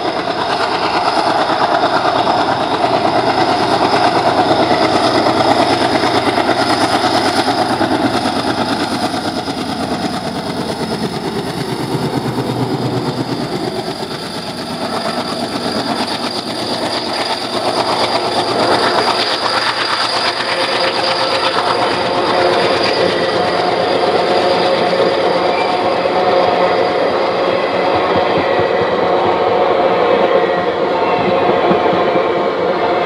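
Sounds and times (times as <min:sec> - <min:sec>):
diesel locomotive engine chugging: 0:00.0 - 0:33.0
train wheels clattering on rails: 0:00.0 - 0:33.0.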